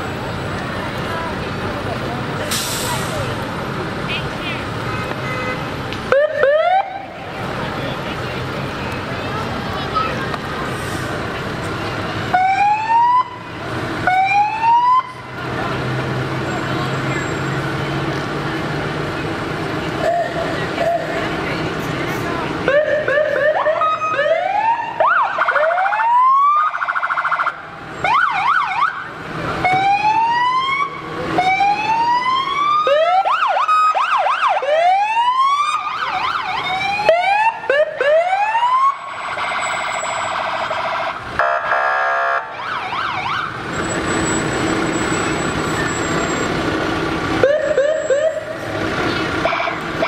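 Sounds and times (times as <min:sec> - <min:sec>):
fire engine sirens whooping: 0:00.0 - 0:04.0, 0:06.1 - 0:08.3, 0:08.9 - 0:18.2, 0:19.4 - 0:50.0
fire trucks passing: 0:00.0 - 0:50.0.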